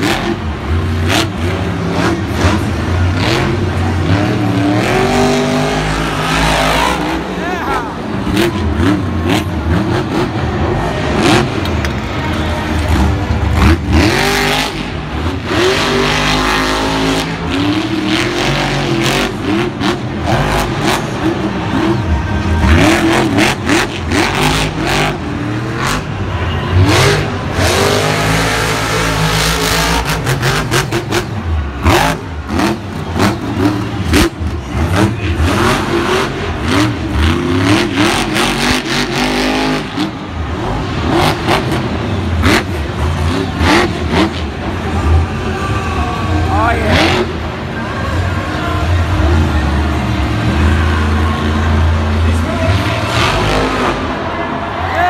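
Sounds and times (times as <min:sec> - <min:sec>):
truck engines revving hard: 0:00.0 - 0:55.0.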